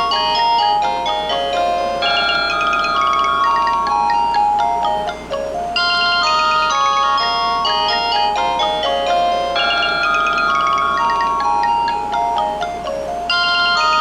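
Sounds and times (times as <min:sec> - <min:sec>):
melodic phone ringtone: 0:00.0 - 0:14.0.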